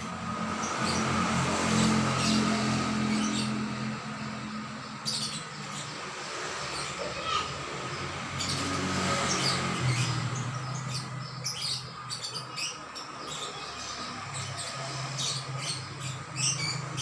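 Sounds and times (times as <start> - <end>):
songbird chirping and trilling: 0.2 - 17.0.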